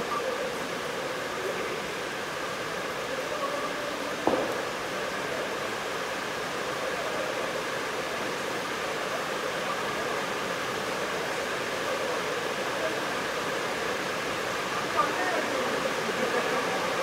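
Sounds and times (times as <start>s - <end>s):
indoor hall hiss: 0.0s - 17.0s.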